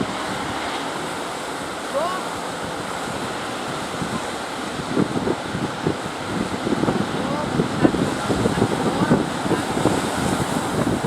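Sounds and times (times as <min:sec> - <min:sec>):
sea waves breaking: 0:00.0 - 0:11.0
wind buffeting microphone: 0:00.0 - 0:11.0.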